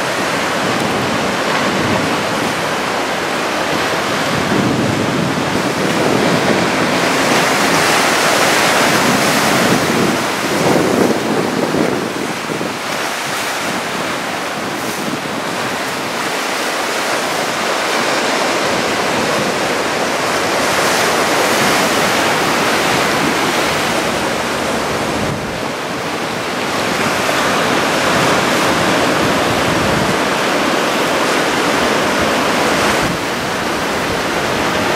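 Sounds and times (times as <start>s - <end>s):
waves breaking on shore: 0.0s - 34.9s
wind buffeting microphone: 0.0s - 34.9s.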